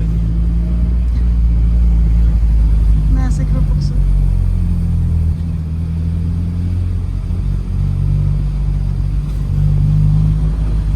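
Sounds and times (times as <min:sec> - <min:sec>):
car engine running: 0:00.0 - 0:10.9.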